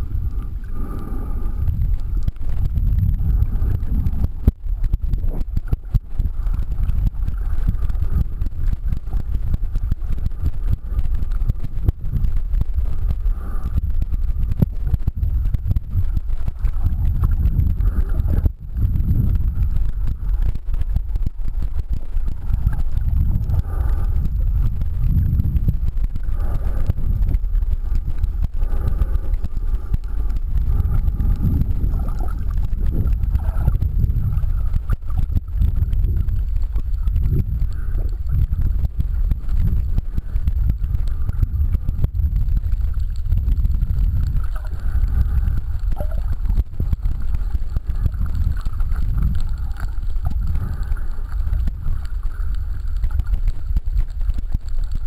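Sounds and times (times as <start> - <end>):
underwater water rumble: 0.0 - 55.0.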